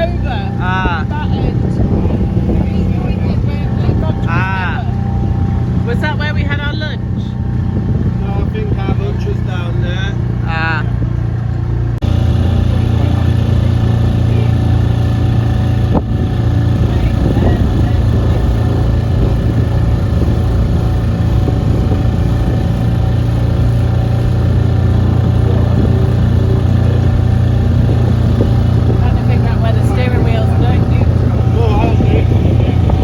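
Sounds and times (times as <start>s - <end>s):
boat engine droning: 0.0s - 33.0s.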